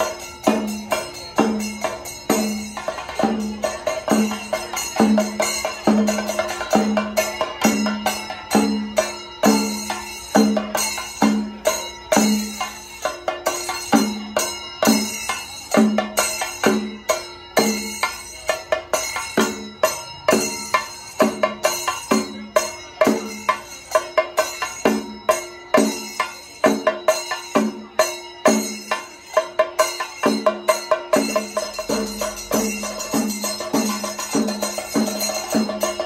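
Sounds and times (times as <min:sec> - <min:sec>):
drums beaten with sticks: 0:00.0 - 0:36.0.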